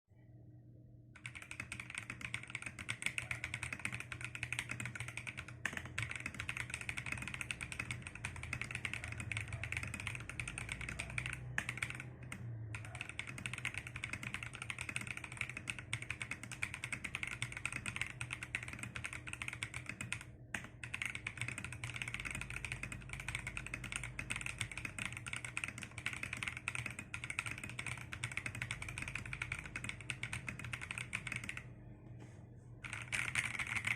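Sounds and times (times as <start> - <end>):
fast typing on mechanical keyboard: 1.2 - 31.7, 32.8 - 33.9.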